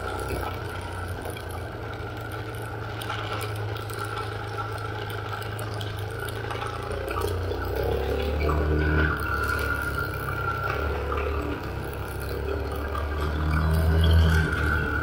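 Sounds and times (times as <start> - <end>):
light rattles and ticks: 0.0 - 15.0.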